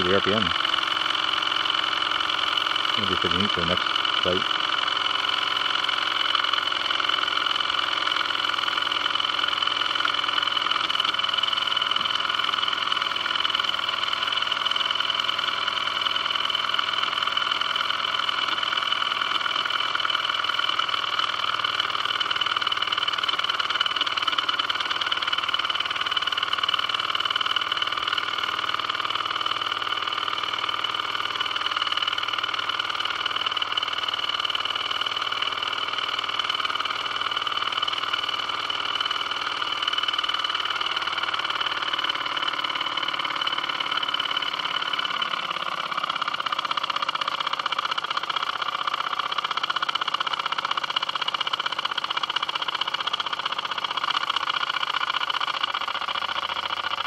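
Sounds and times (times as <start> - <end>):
toy steam engine running: 0.0 - 57.0.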